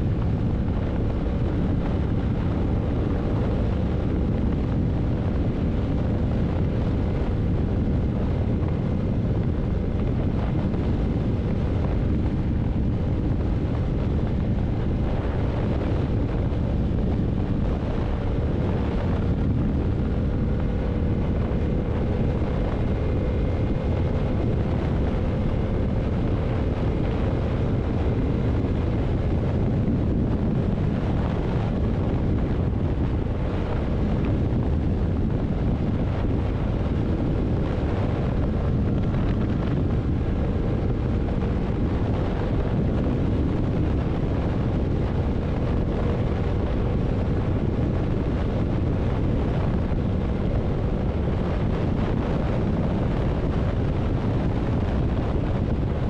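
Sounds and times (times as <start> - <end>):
motorcycle engine cruising: 0.0 - 56.0
wind rush on microphone: 0.0 - 56.0.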